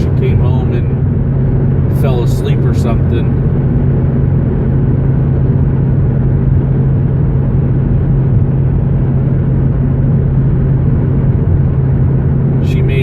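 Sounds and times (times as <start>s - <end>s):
car interior engine and road noise: 0.0s - 13.0s.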